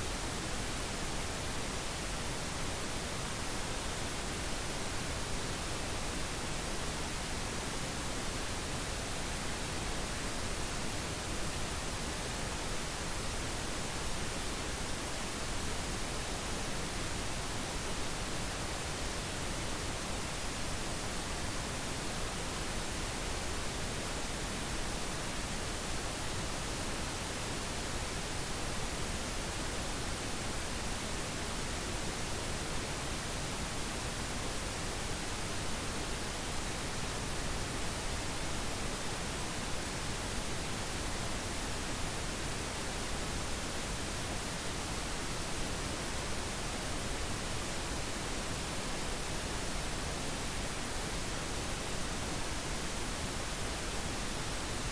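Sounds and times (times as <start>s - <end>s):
pink noise hiss: 0.0s - 54.9s.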